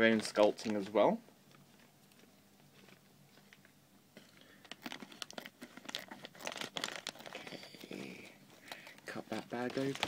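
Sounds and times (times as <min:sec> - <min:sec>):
plastic bag crinkling: 0:01.6 - 0:10.0.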